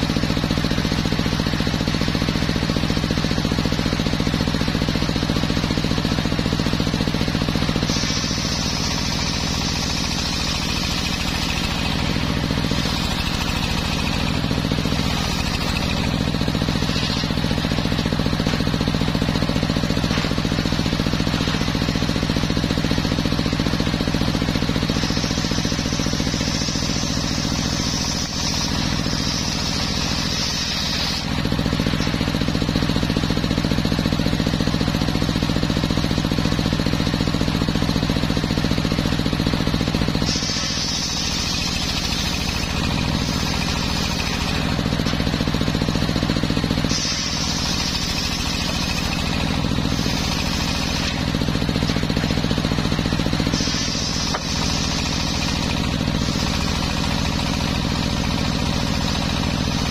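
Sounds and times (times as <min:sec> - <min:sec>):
saw blade cutting wood whine: 0:00.0 - 0:59.9
sawmill humming: 0:00.0 - 0:59.9.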